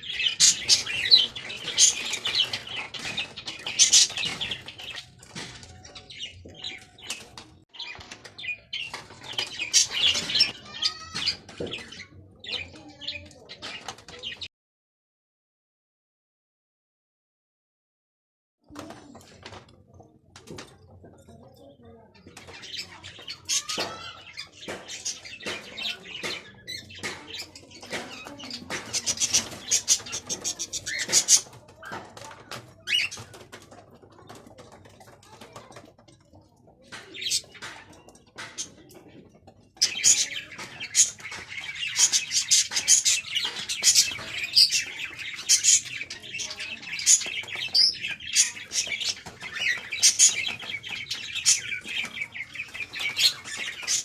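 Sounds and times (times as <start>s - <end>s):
birds chirping and chattering: 0.0s - 14.5s, 18.6s - 54.0s.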